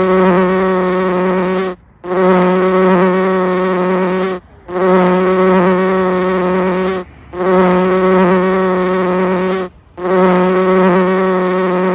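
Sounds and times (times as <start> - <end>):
honeybee buzzing: 0.0 - 11.9.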